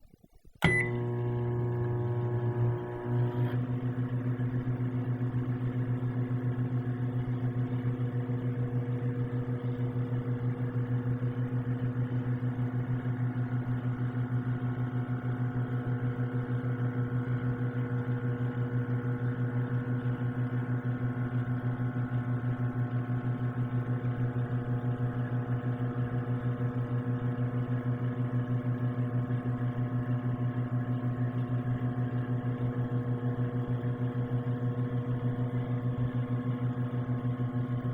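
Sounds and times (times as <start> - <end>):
microwave oven humming: 0.6 - 37.9.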